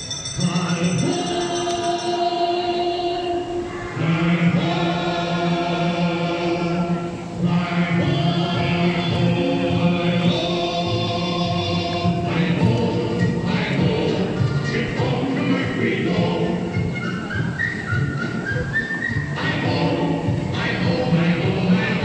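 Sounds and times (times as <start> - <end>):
choir singing long notes: 0.4 - 22.0.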